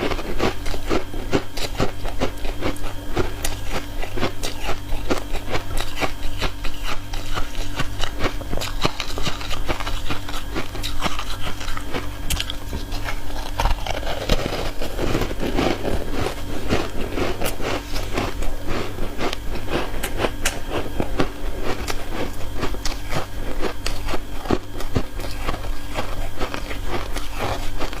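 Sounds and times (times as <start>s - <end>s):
chewing ice cubes: 0.0s - 28.0s
steady low hum: 0.0s - 28.0s.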